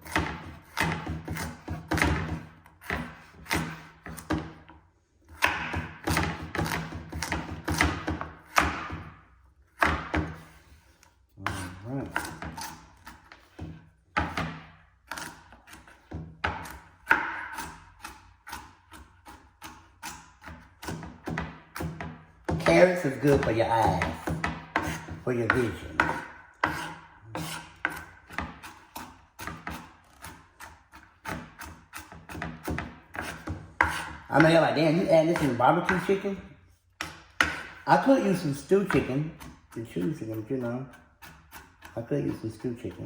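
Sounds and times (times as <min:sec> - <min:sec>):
knife chopping on cutting board: 0:00.0 - 0:04.7, 0:05.3 - 0:10.6, 0:11.4 - 0:36.3, 0:37.0 - 0:42.4.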